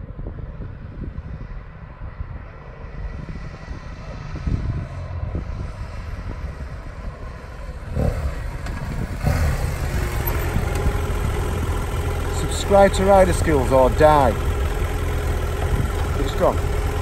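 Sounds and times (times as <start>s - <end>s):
motorcycle engine low rumble: 0.0s - 17.0s.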